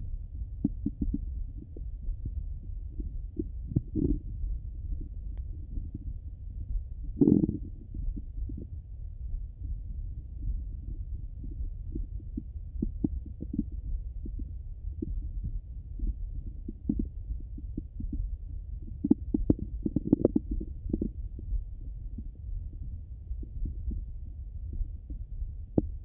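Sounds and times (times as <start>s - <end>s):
stomach rumbling: 0.0s - 26.0s
stomach gurgles and pops: 0.5s - 8.8s, 9.6s - 26.0s.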